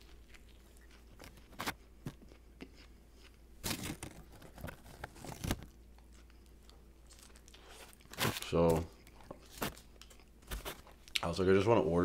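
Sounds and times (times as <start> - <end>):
chewing crunchy sandwich: 0.0 - 11.3.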